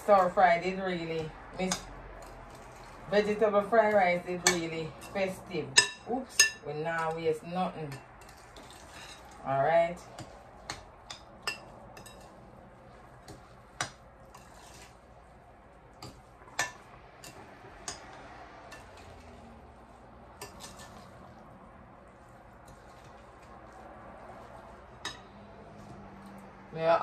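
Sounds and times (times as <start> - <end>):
hands mixing food in bowl: 0.0 - 27.0.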